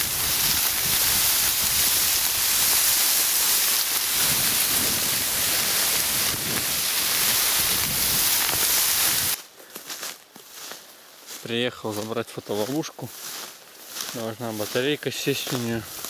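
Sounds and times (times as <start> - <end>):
dry reeds rustling: 0.0 - 16.0.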